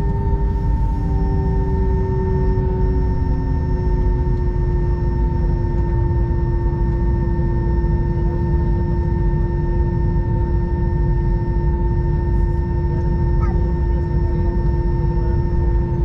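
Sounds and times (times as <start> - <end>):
airplane cabin low rumble: 0.0 - 16.0
jet engine whine: 0.0 - 16.0.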